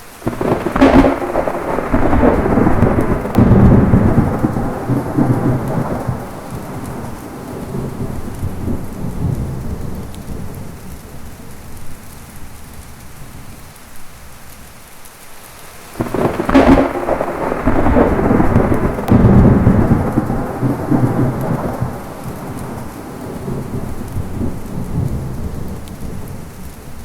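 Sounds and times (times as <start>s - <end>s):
heavy rain: 0.0s - 27.0s
rumbling thunder: 0.2s - 14.7s, 16.0s - 27.0s.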